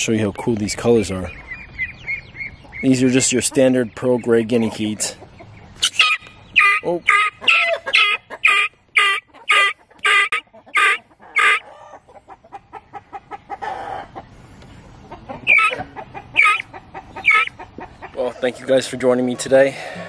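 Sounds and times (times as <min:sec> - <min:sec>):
guineafowl chick calling harshly: 0:01.2 - 0:18.2.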